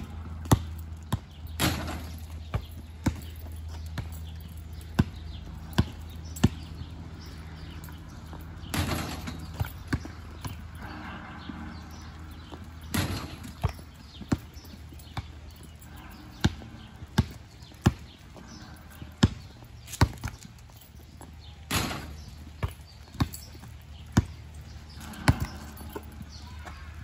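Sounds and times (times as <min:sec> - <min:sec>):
basketball bouncing on pavement: 0:00.0 - 0:27.0.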